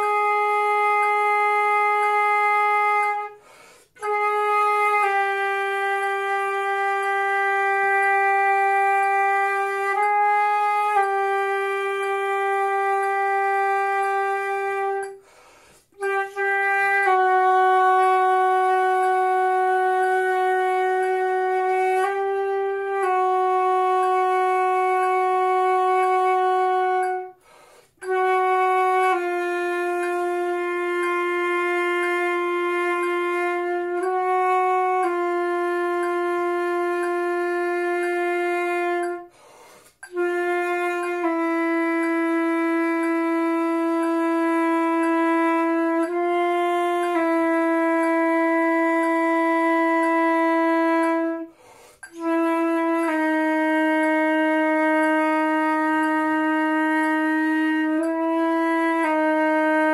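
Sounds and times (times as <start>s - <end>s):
flute playing long notes: 0.0s - 59.9s.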